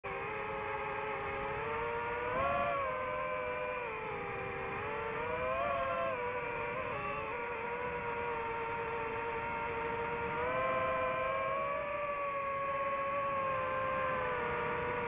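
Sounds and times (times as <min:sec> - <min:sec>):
drone propellers whining: 0:00.1 - 0:15.0.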